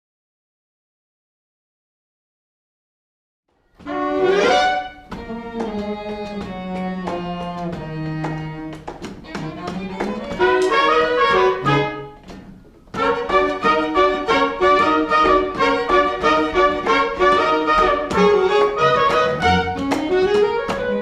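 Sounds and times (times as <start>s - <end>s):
orchestra playing: 3.8s - 21.0s.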